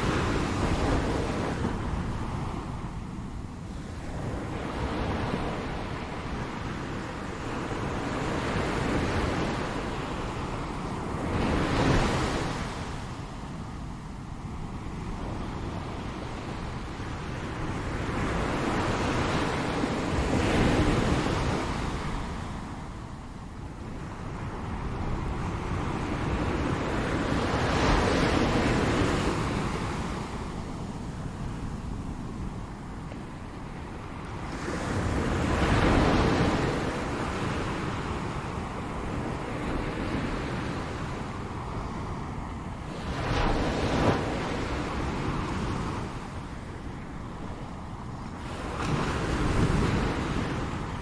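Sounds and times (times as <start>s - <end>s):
ocean waves breaking on shore: 0.0s - 51.0s.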